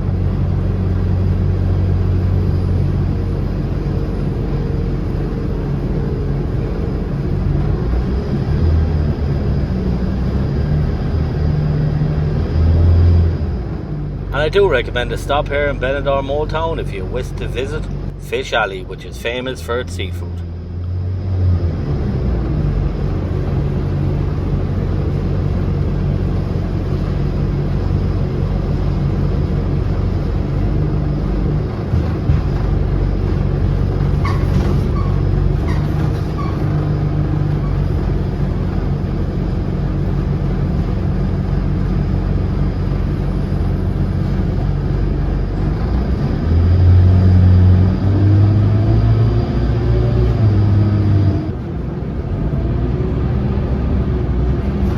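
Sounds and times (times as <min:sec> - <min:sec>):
bus engine hum: 0:00.0 - 0:54.9.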